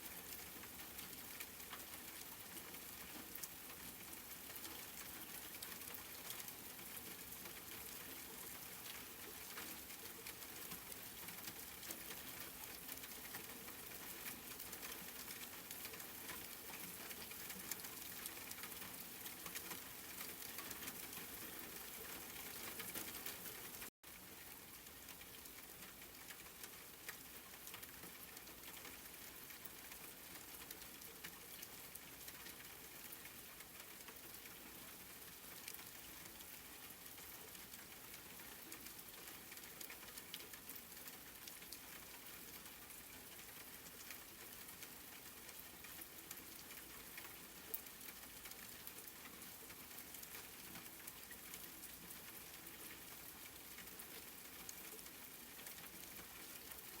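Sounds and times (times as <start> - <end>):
soft rain pattering: 0.0 - 57.0.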